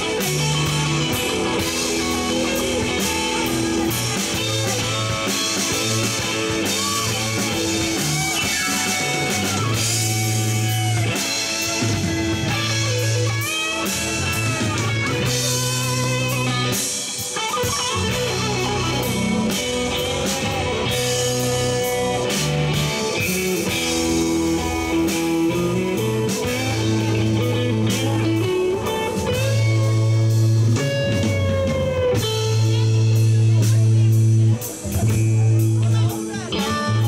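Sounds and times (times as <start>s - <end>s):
electric guitar lead with bent notes: 0.0s - 37.0s
live blues band: 0.0s - 37.0s.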